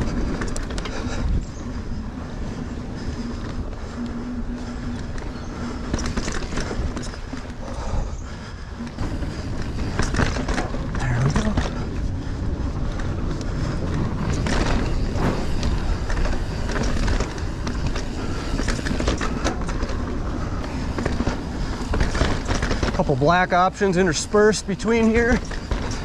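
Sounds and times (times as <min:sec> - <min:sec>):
bike rattling over bumps: 0:00.0 - 0:26.0
bike tyres rolling on dirt: 0:00.0 - 0:26.0.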